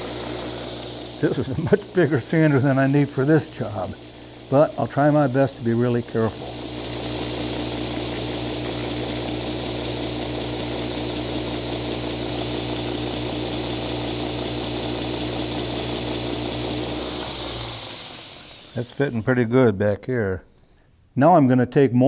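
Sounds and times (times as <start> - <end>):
belt sander running: 0.0 - 19.6.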